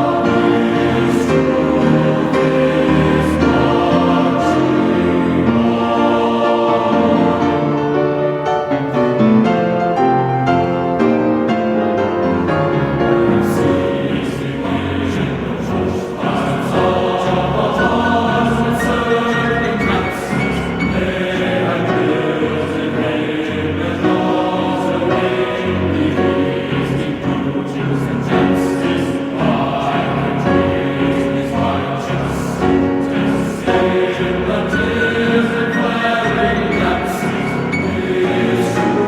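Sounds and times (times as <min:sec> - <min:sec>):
choir singing held notes: 0:00.0 - 0:39.0
low accompaniment: 0:00.0 - 0:39.0.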